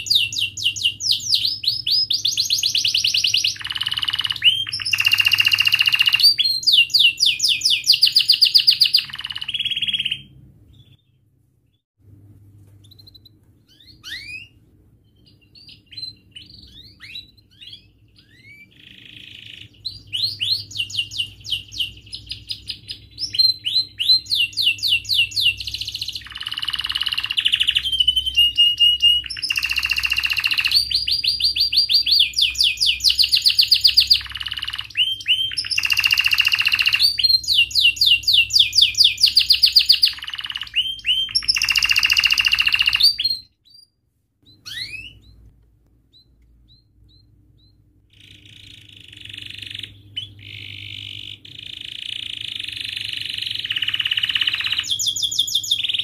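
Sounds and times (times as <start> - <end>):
canary singing trills: 0.0 - 11.8, 12.8 - 56.0.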